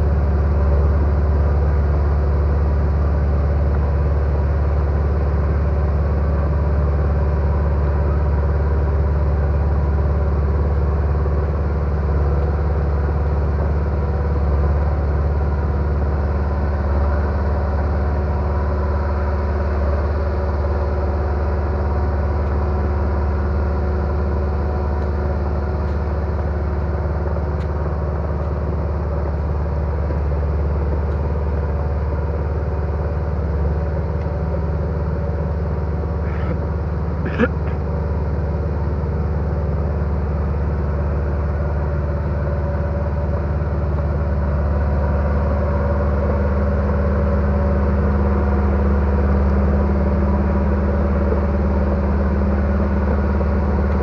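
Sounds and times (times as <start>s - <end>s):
heavy equipment engine running: 0.0s - 54.0s.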